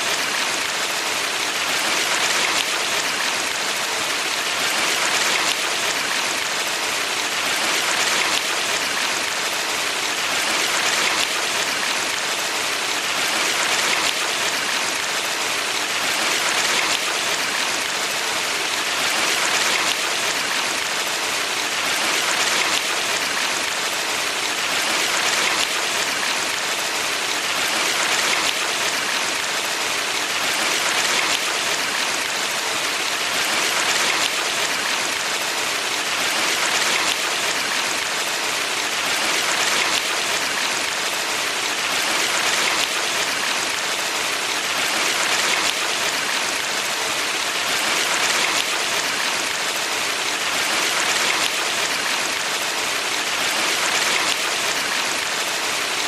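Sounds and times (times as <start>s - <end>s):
stream running water: 0.0s - 56.0s.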